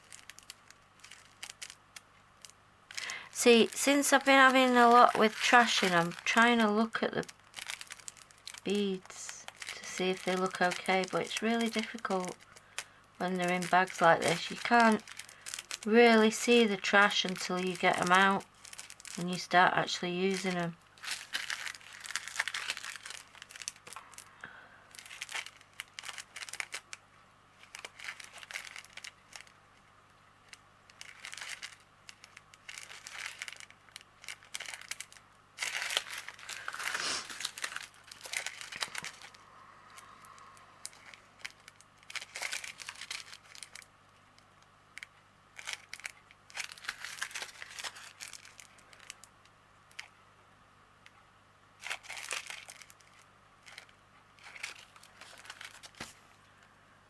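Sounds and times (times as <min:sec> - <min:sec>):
plastic bags crinkling: 0:00.0 - 0:50.1, 0:51.8 - 0:56.4.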